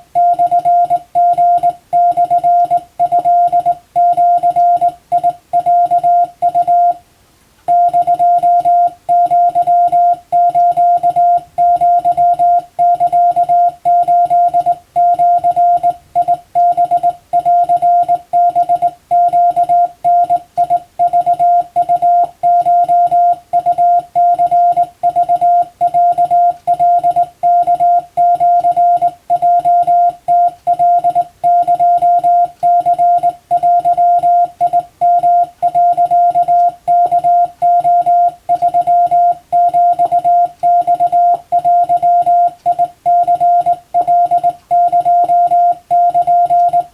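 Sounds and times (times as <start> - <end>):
morse code tone: 0.0 - 7.0, 7.7 - 46.9.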